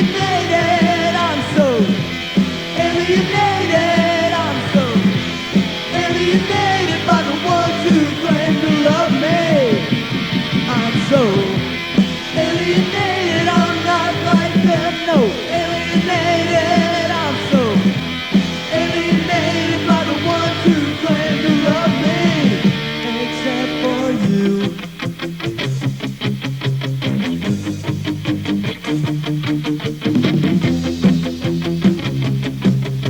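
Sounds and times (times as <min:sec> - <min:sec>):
loud rock band playing: 0:00.0 - 0:33.0.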